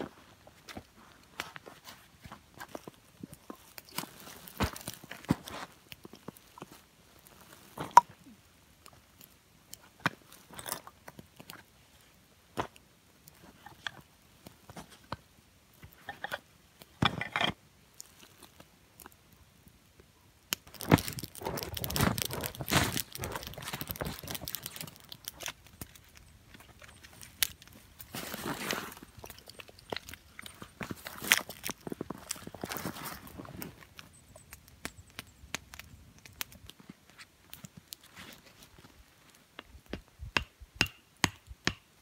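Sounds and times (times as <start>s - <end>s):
crunching and rustling: 0.0s - 15.2s, 15.8s - 19.2s, 20.5s - 39.6s.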